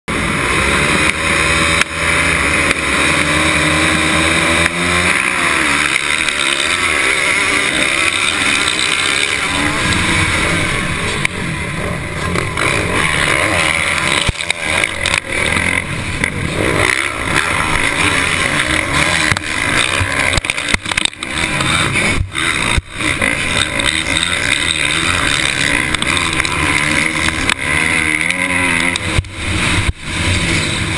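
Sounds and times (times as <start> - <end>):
motocross bike engines revving: 0.1 - 30.9.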